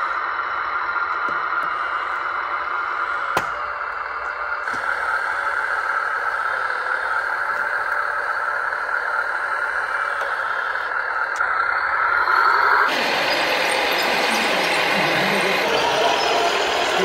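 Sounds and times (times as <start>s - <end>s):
model truck drive whine: 0.0s - 17.0s
rough machine noise: 0.0s - 17.0s.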